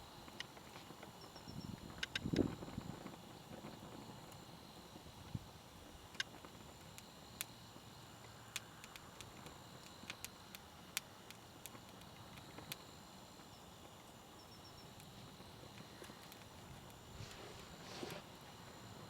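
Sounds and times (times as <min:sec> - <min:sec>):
campfire crackling and popping: 0:01.8 - 0:19.0.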